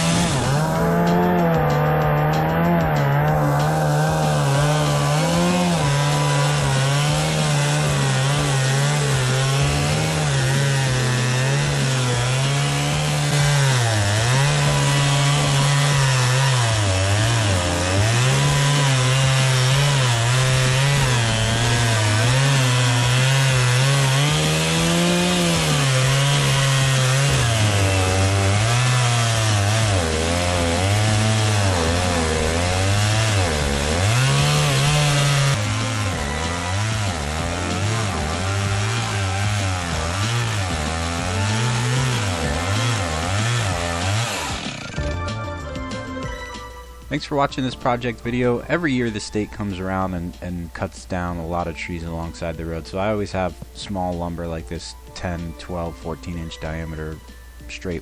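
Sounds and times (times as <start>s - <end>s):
chainsaw cutting log: 0.0s - 46.4s, 47.0s - 58.0s.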